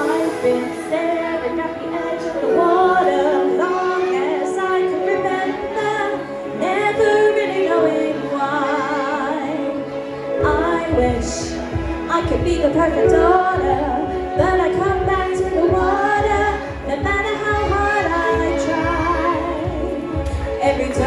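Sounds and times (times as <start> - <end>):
pop backing track: 0.0 - 21.0
woman singing with vibrato: 0.0 - 21.0.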